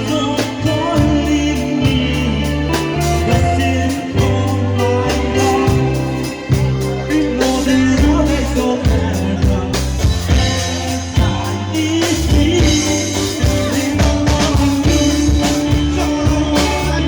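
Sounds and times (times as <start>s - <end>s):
band accompaniment: 0.0s - 17.0s
person singing: 0.0s - 17.0s.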